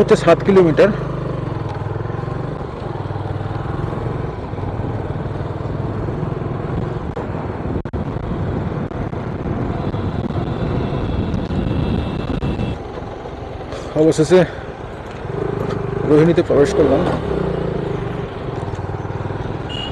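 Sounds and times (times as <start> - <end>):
motorcycle engine running: 0.0 - 7.5, 8.1 - 19.9
road noise: 0.0 - 19.9.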